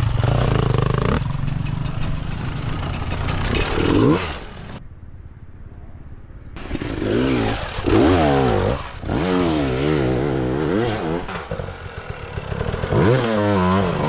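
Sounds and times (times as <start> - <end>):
motorcycle engine revving: 0.0 - 4.8, 6.6 - 14.0.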